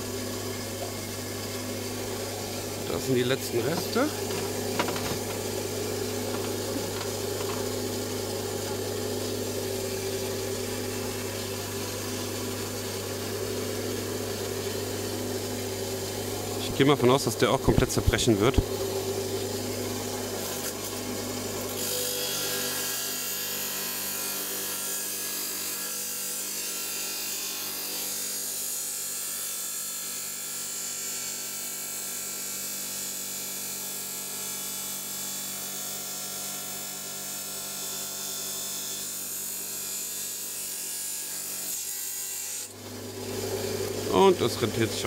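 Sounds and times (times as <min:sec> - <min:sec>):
stone saw cutting: 0:00.0 - 0:32.4, 0:34.8 - 0:44.8.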